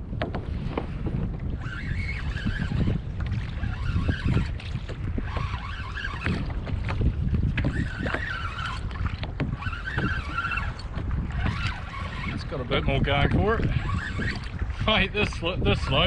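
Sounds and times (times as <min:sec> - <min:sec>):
water slapping against hull: 0:00.0 - 0:16.0
wind buffeting microphone: 0:00.0 - 0:16.0.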